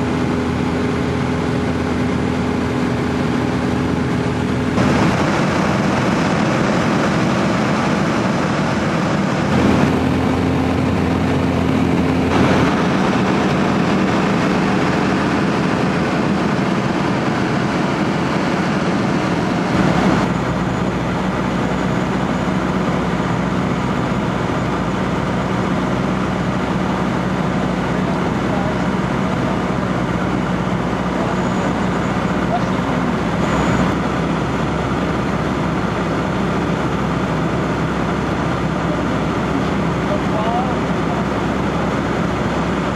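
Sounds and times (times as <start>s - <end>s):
aircraft engine and propeller drone: 0.0s - 42.9s.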